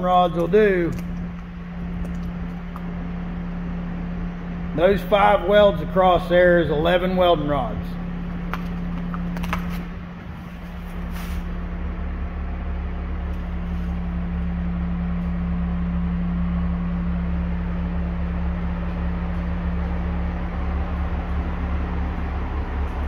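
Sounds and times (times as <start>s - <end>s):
ventilation fans droning: 0.0s - 23.0s.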